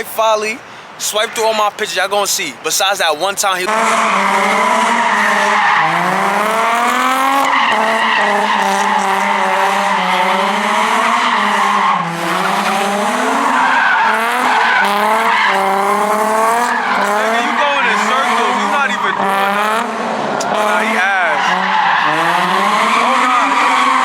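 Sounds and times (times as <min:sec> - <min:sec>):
car tyres squealing: 0:03.6 - 0:24.0.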